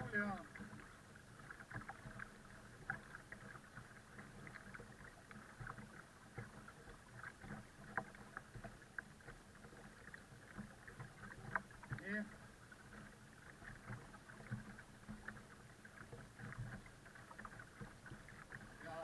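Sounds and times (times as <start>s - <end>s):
water splashing and gurgling: 0.0s - 19.0s.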